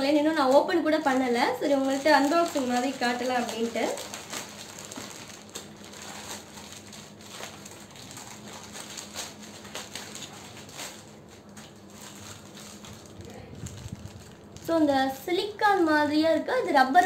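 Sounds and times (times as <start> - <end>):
plastic mailer bag rustling: 0.4 - 15.6.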